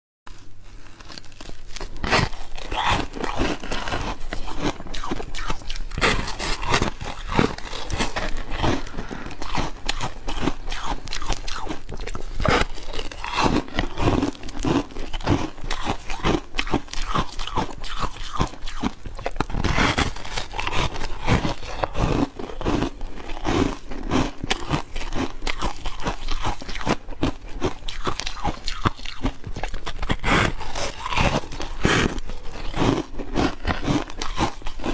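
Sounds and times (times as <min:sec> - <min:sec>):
ice crunching being chewed: 0:00.3 - 0:34.9.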